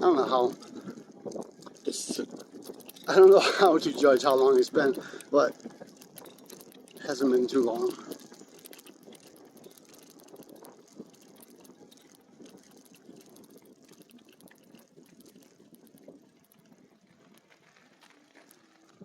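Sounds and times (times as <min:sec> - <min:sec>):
bike tyres rolling on trail: 0:00.0 - 0:19.0
light ticks: 0:00.0 - 0:19.0.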